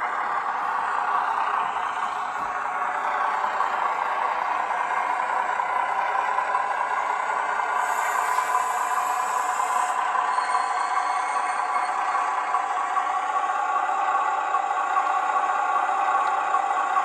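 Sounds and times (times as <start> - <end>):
diesel railcar engine from small speaker: 0.0 - 17.0.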